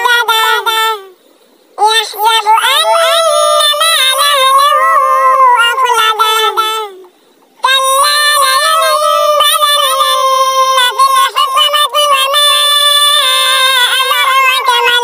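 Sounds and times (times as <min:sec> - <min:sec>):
person chanting melodic recitation: 0:00.0 - 0:01.2, 0:01.8 - 0:15.0.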